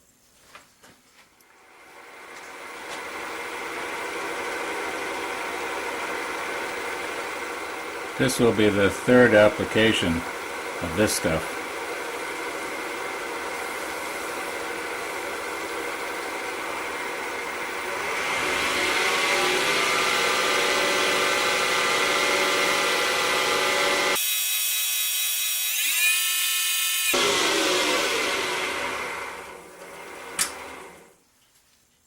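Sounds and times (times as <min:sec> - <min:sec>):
wood lathe motor whine: 0:01.6 - 0:31.1.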